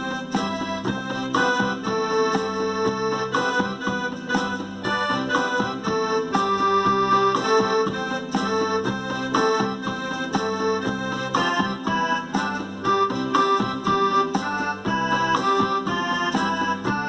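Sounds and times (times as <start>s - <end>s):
accordion-led music: 0.0s - 17.0s.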